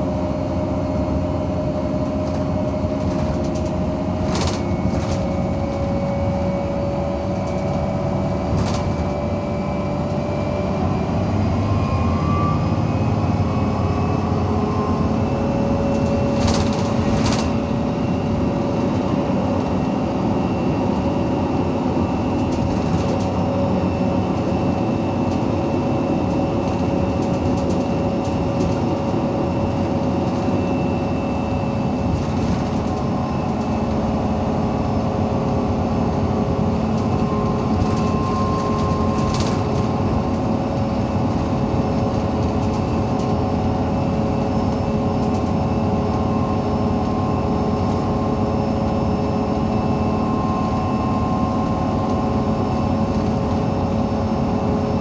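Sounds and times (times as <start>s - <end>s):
bus diesel engine droning: 0.0s - 55.0s.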